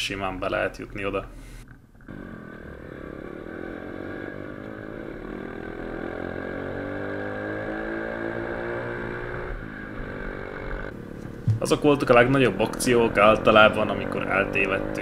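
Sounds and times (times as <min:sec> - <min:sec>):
pitbike engine under throttle: 0:01.4 - 0:15.0.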